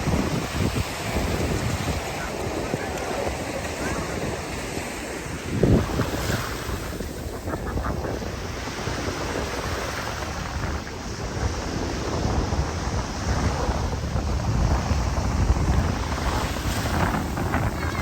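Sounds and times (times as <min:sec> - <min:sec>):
ocean surf washing in: 0:00.0 - 0:18.0
wind buffeting microphone: 0:00.0 - 0:18.0.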